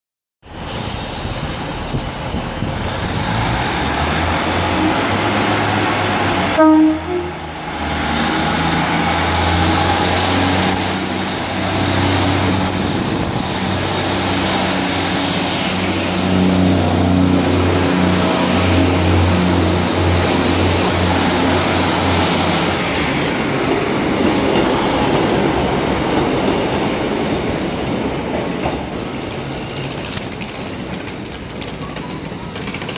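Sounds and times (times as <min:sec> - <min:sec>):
train diesel engine hum: 0:00.4 - 0:32.9
train wheels rumbling: 0:00.5 - 0:32.9.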